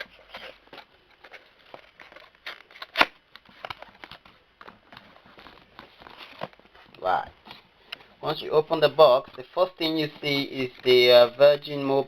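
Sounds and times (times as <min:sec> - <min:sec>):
cardboard packaging rustling: 0:00.0 - 0:12.0.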